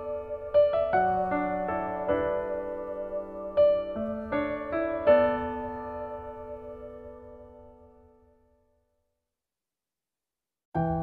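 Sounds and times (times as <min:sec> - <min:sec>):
slow soft piano melody: 0:00.0 - 0:08.8, 0:10.8 - 0:11.0.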